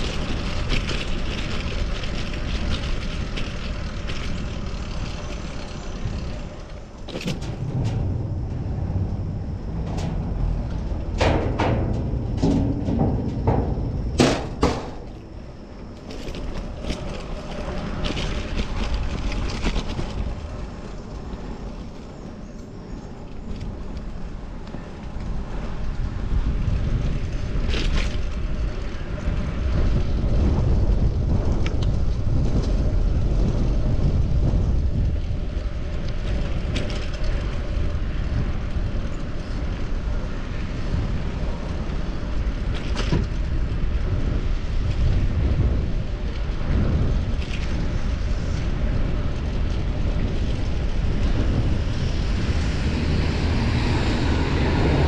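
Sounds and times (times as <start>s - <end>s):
road traffic rumbling: 0.0s - 30.8s, 32.3s - 55.0s
wind on microphone: 0.0s - 55.0s.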